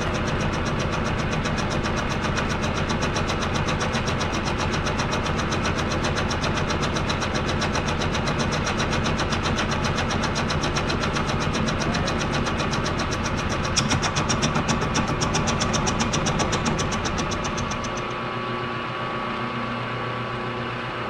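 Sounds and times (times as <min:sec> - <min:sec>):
cutter pulsing through metal: 0:00.0 - 0:18.3
milling machine spindle running: 0:00.0 - 0:21.0.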